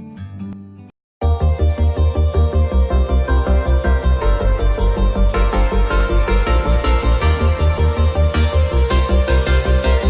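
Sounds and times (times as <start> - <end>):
background music: 1.2 - 10.0
music with heavy bass beat: 1.2 - 10.0.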